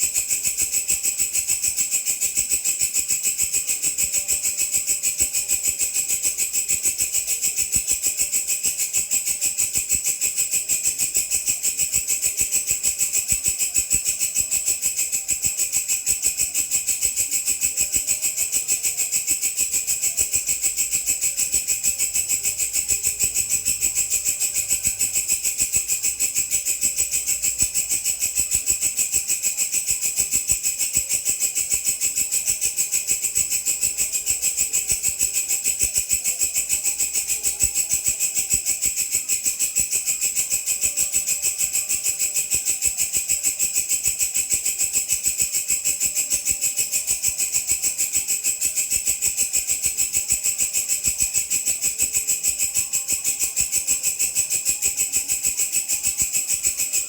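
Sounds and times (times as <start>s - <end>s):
grasshopper trilling: 0.0s - 57.0s.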